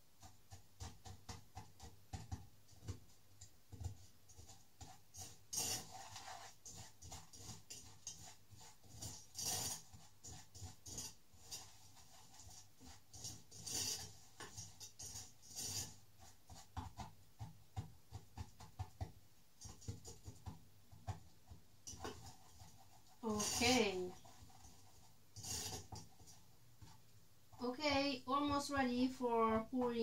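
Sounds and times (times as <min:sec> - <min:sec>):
wooden spoon scraping saucepan: 0:04.0 - 0:18.8, 0:19.5 - 0:30.0.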